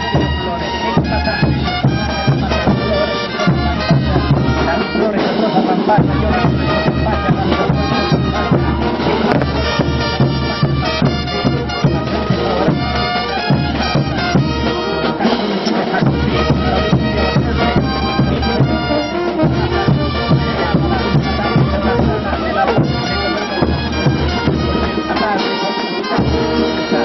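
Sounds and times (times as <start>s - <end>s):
bass drums: 0.0s - 5.2s, 5.9s - 25.4s, 26.1s - 27.0s
brass band playing dance music: 0.0s - 27.0s
snare drum: 0.0s - 27.0s.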